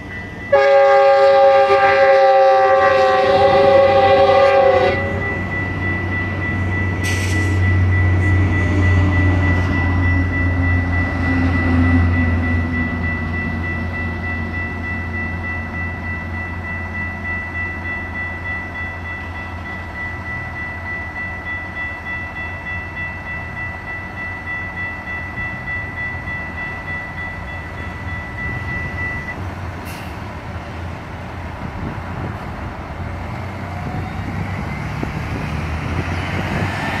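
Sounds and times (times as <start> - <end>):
crossing bell ringing: 0.0 - 37.0
train rumble: 0.0 - 37.0.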